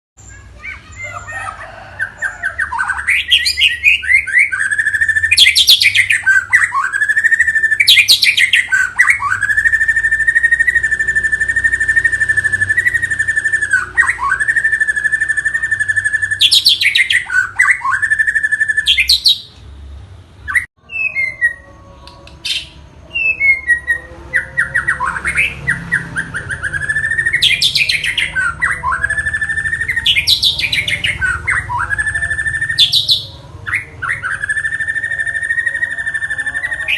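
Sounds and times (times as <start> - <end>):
bird singing trills and whistles: 0.2 - 19.6, 20.4 - 36.9.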